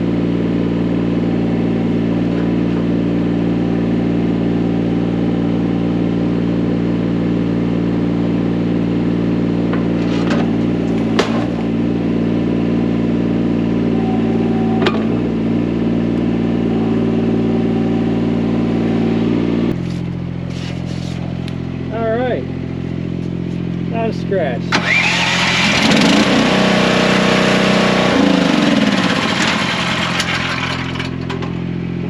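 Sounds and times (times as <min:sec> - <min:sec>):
diesel excavator engine running: 0:00.0 - 0:32.0.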